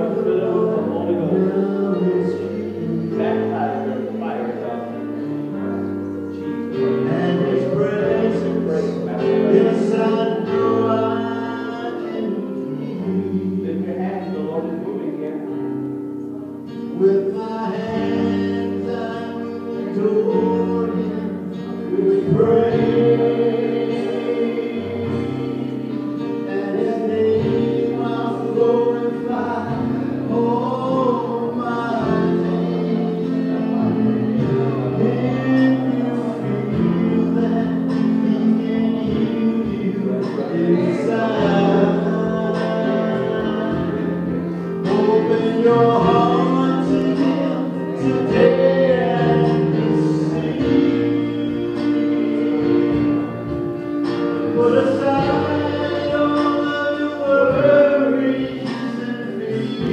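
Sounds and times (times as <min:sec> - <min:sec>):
instrumental accompaniment: 0:00.0 - 0:59.9
voices singing gospel: 0:00.0 - 0:59.9.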